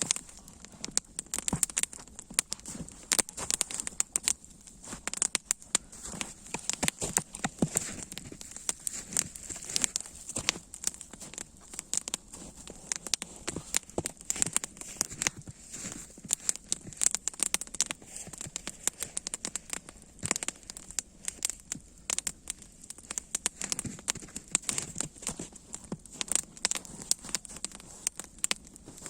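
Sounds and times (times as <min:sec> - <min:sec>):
crackling and snapping: 0:00.0 - 0:29.0.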